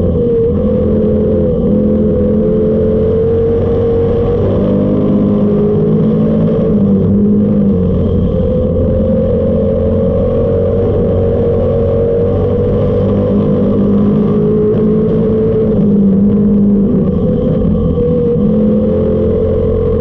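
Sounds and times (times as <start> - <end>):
race car engine at high revs: 0.0 - 20.0.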